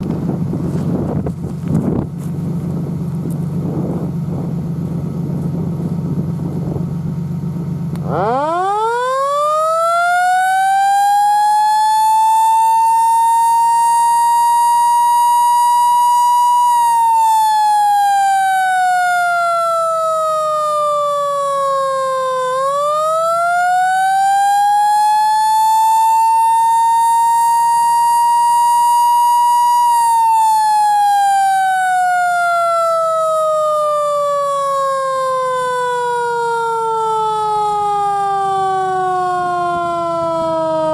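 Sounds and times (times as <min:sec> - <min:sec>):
electromechanical siren wailing: 0:00.5 - 0:40.9.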